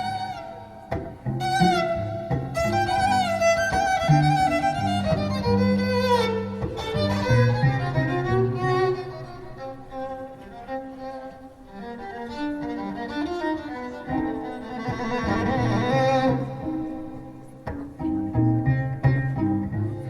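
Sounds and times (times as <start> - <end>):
bowed violin melody: 0.0 - 20.0
sustained low string notes: 0.0 - 20.0.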